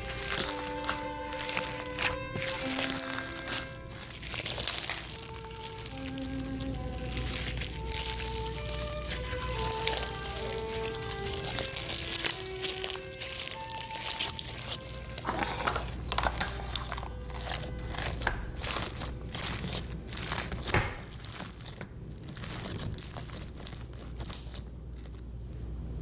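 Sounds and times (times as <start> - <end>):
slime crackling crunches: 0.0 - 25.4.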